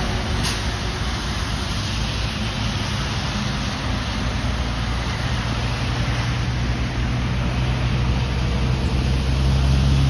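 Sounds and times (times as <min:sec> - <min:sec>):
steady traffic noise: 0:00.0 - 0:10.0
truck diesel engine passing: 0:00.0 - 0:10.0
tyres hissing on wet road: 0:00.0 - 0:10.0.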